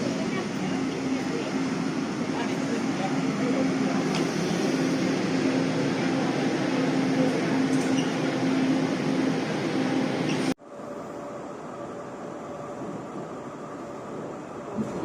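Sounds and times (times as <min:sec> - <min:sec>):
train humming at platform: 0:00.0 - 0:15.0.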